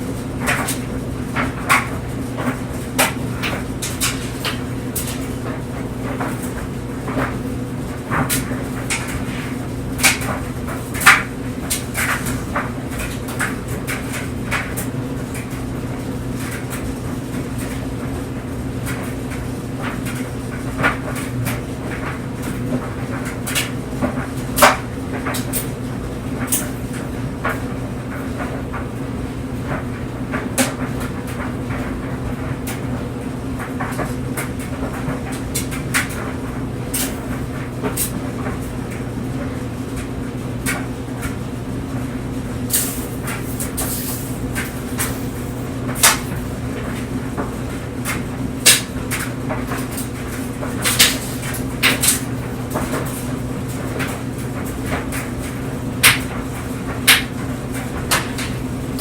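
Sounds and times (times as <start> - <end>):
clothes dryer humming: 0.0 - 59.0.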